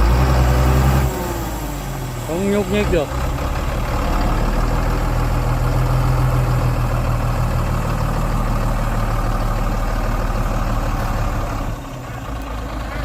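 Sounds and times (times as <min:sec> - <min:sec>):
heavy truck engine droning: 0:00.0 - 0:13.0.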